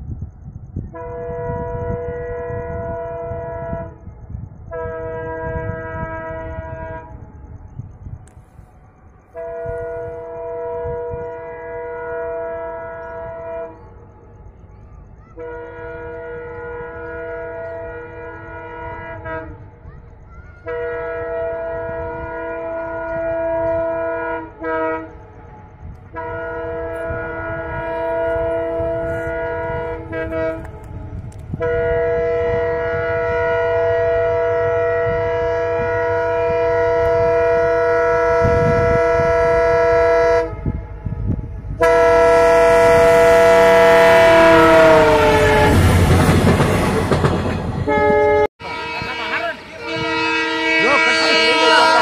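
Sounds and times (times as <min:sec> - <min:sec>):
train rumble and wheel clatter: 0:00.0 - 0:52.0
locomotive horn blasts: 0:00.8 - 0:07.6, 0:09.3 - 0:14.2, 0:15.3 - 0:19.9, 0:20.6 - 0:52.0.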